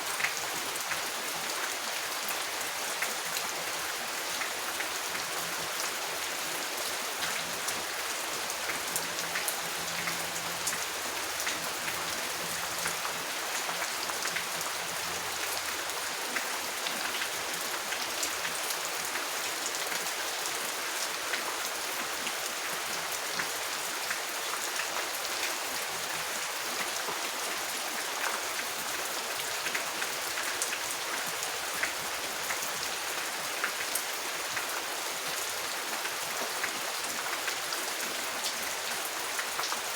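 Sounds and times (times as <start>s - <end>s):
steady rain falling: 0.0s - 39.9s
raindrops striking close by: 2.4s - 34.8s.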